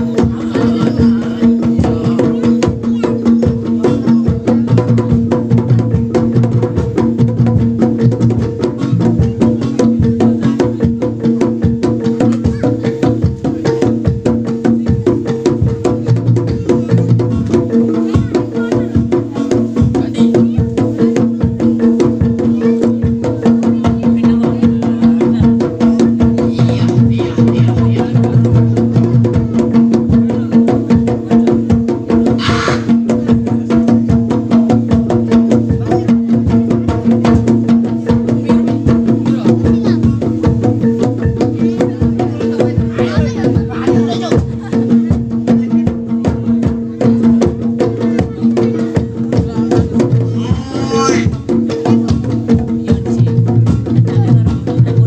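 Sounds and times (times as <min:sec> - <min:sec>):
ringing pitched percussion tones: 0:00.0 - 0:54.6
fast drum strikes: 0:00.0 - 0:55.0
heavy low beats: 0:00.0 - 0:55.0.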